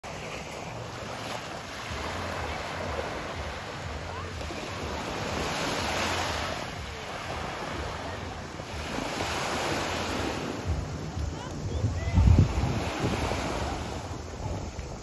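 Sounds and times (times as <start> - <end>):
small waves breaking on sand: 0.0 - 15.0
wind rumble on microphone: 1.9 - 15.0.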